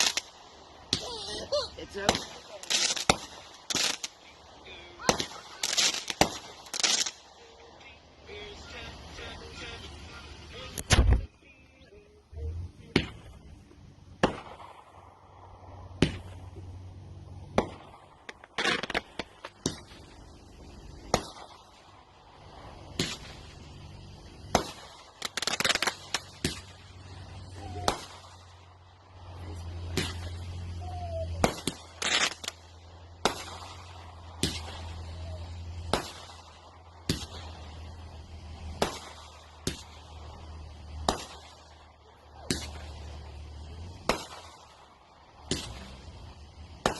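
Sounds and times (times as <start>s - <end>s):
rising firework whistles: 0.0s - 12.0s, 14.2s - 46.9s
fireworks crackling: 0.0s - 46.9s
fireworks reports: 0.0s - 46.9s.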